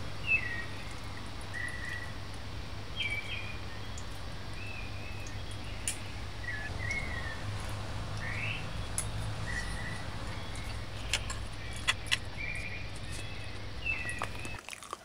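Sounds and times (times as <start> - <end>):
birds chirping: 0.0 - 14.6
steady low hum: 0.0 - 14.6.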